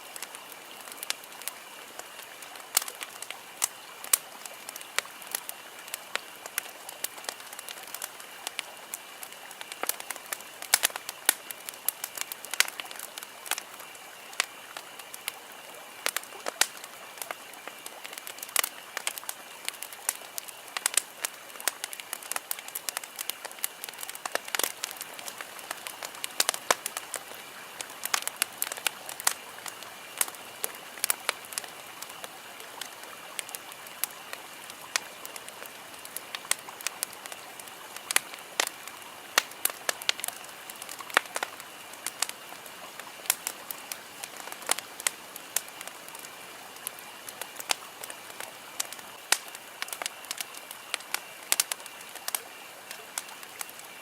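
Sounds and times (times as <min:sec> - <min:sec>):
soft steady hiss: 0:00.0 - 0:54.0
wood campfire crackling: 0:00.0 - 0:54.0.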